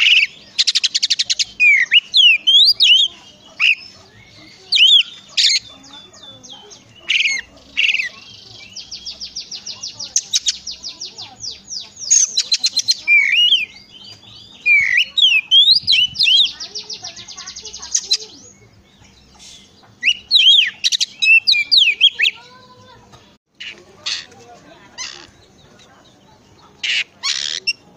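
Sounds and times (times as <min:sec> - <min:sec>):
songbird singing whistled phrases: 0:00.0 - 0:22.5.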